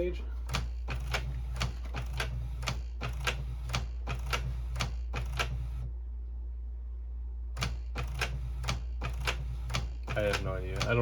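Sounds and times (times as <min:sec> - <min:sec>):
printer mechanism clicking and whirring: 0:00.0 - 0:05.9, 0:07.6 - 0:11.0.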